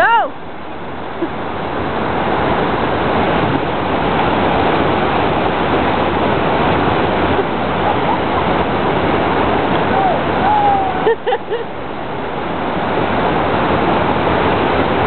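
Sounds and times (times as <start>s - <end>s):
water rushing over a dam: 0.0s - 15.0s.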